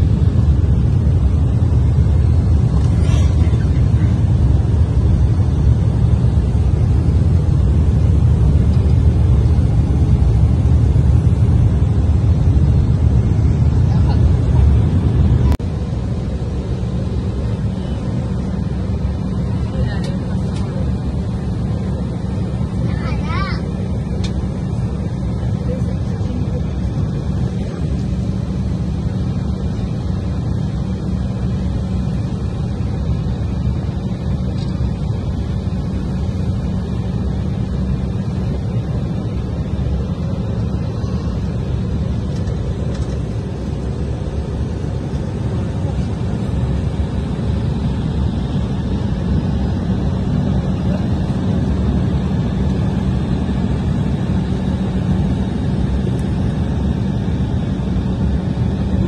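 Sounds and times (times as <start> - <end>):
jet engine and cabin noise: 0.0 - 59.0.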